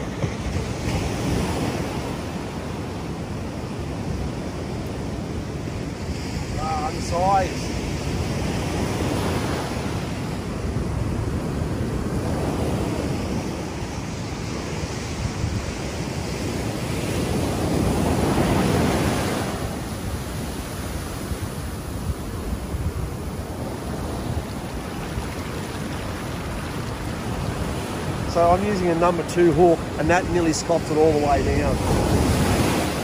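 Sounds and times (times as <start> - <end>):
ocean surf breaking on beach: 0.0 - 33.0
wind on microphone: 0.0 - 33.0.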